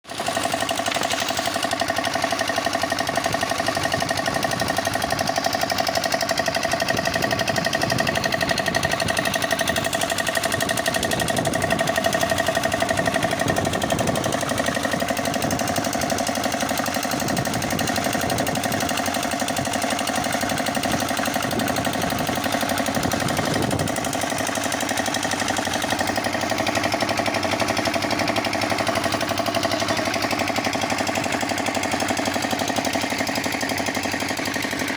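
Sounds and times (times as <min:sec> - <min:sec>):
concrete mixer rattling: 0:00.0 - 0:34.9.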